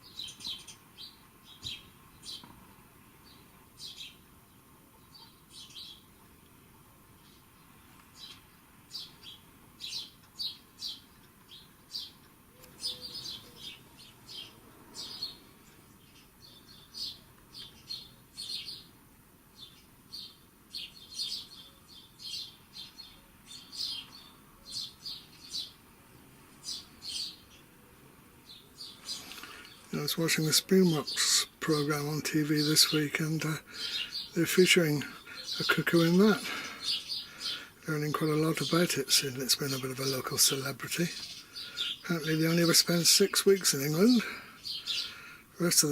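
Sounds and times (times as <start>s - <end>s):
recorded birdsong chirps and trills: 0.0s - 45.9s.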